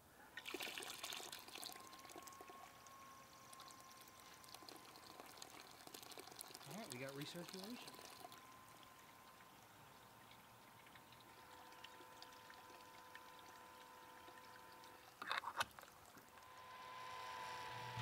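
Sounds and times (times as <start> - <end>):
faint steady hum: 0.0 - 18.0
liquid trickling into a vessel: 0.4 - 16.6.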